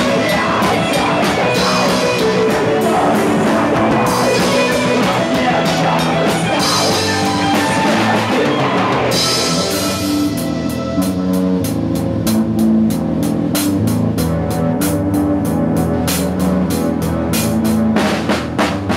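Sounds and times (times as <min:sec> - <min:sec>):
drum kit beat: 0:00.0 - 0:18.9
guitars: 0:00.0 - 0:18.9.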